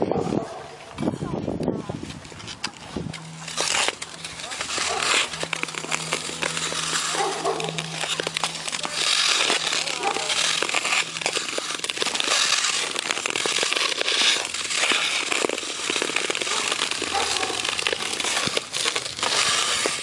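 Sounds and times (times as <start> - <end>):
skate blades scraping ice: 0.0 - 20.0.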